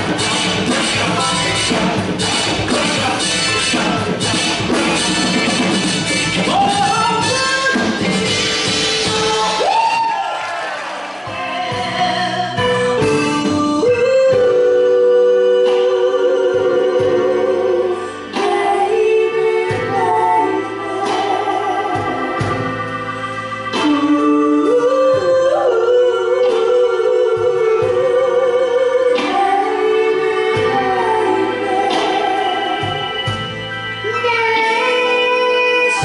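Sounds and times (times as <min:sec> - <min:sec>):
live band music: 0:00.0 - 0:36.0
person singing with vibrato: 0:06.3 - 0:10.5, 0:11.2 - 0:36.0.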